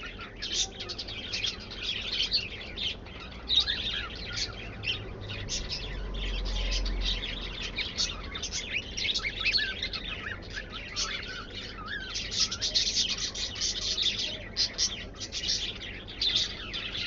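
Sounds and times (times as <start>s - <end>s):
birds chirping and chattering: 0.0s - 17.0s.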